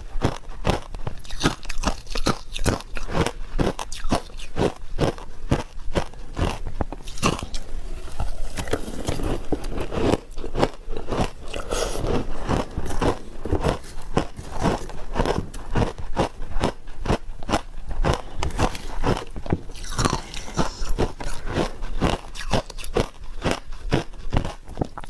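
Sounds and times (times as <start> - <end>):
ice being chewed: 0.0 - 25.0.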